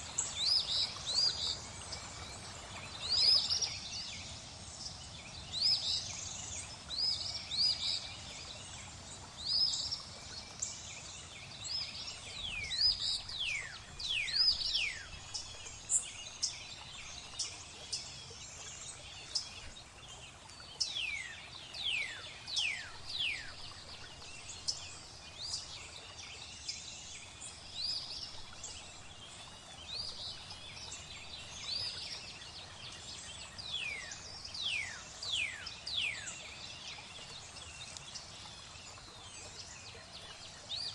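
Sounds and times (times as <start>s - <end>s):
flowing water hiss: 0.0s - 40.9s.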